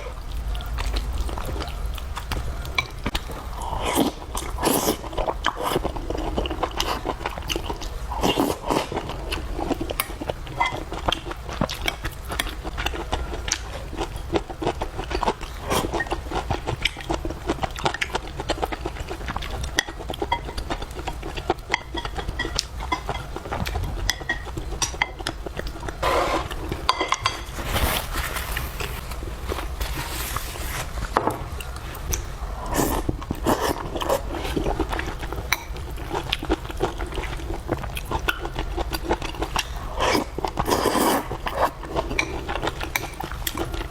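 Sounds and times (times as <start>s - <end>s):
person chewing with wet clicks: 0.0s - 27.4s, 31.6s - 43.9s.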